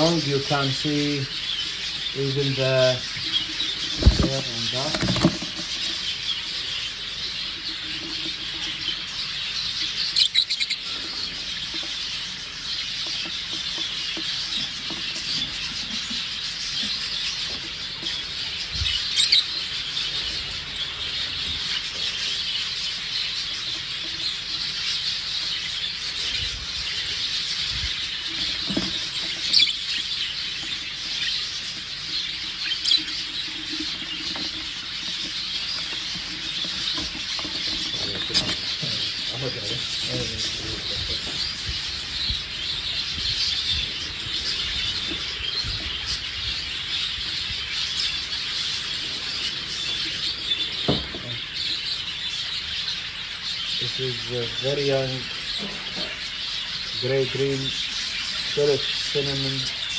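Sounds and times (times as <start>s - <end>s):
budgerigars chattering and chirping: 0.0s - 59.9s.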